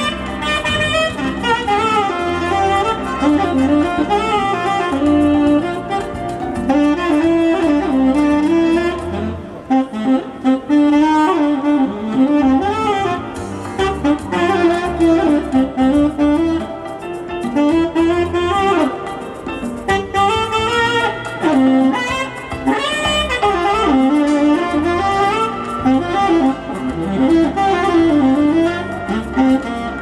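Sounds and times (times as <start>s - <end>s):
saxophone slow melody: 0.0s - 30.0s.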